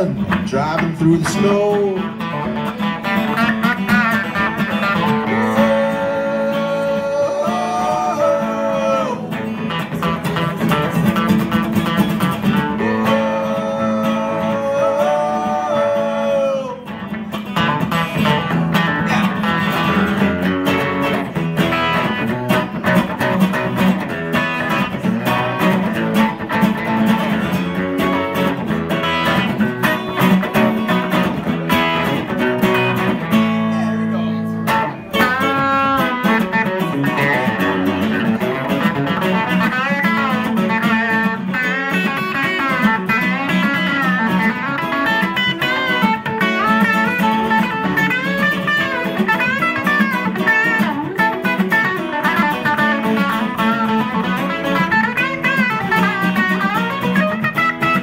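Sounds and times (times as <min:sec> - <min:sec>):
electric guitar melody: 0:00.0 - 0:58.0
strummed acoustic guitar: 0:00.0 - 0:58.0.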